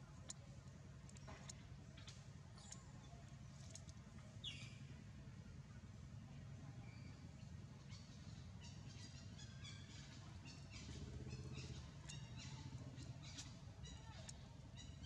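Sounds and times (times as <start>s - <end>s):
small birds chirping: 0.0s - 4.9s, 6.8s - 15.0s
low background rumble: 0.0s - 15.0s.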